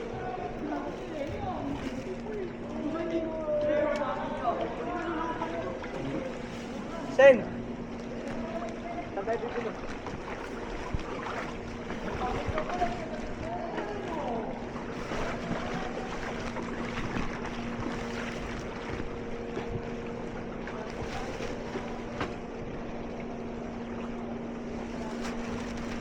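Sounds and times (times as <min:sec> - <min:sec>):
motor hum: 0:00.0 - 0:26.0
water rushing: 0:00.0 - 0:26.0.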